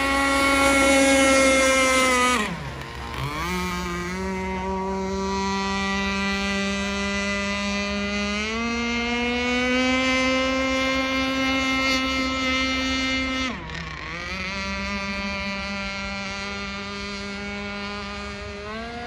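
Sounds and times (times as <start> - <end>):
small two-stroke boat engine: 0.0 - 19.0.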